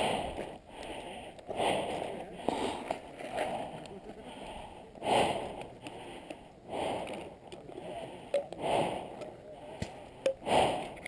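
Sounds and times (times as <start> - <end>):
heavy breathing: 0.0 - 11.0.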